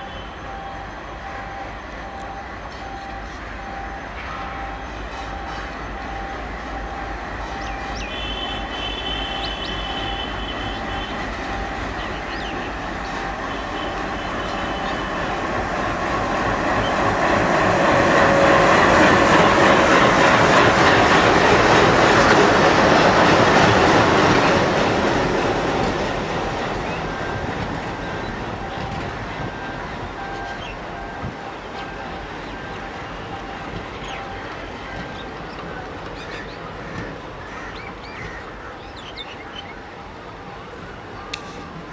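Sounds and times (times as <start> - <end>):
diesel locomotive passing: 0.0 - 41.9
train coaches rolling on rails: 0.0 - 41.9.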